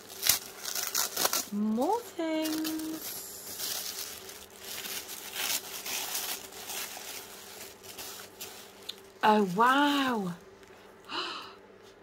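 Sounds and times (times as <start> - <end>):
tissue paper rustling: 0.0 - 10.9.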